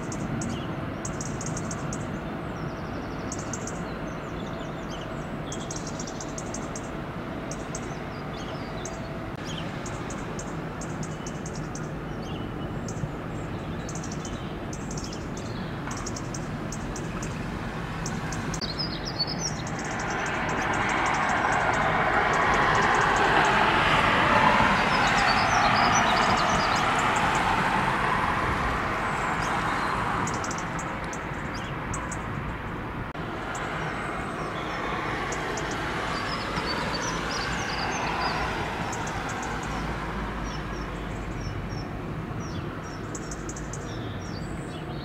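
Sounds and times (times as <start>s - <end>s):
small birds chirping: 0.0s - 27.6s, 29.1s - 32.8s, 33.5s - 45.0s.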